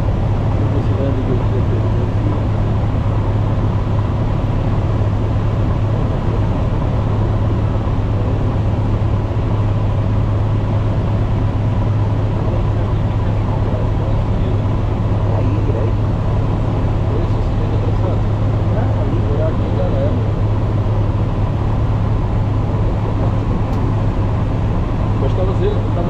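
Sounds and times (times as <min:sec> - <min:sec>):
airflow noise in cabin: 0:00.0 - 0:26.0
small aircraft engine drone: 0:00.0 - 0:26.0.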